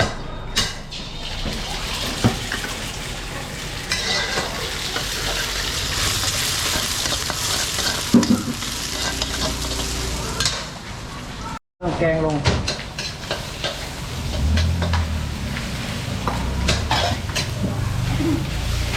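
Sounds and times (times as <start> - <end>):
noodles sizzling in a wok: 1.2 - 11.4, 12.7 - 18.9.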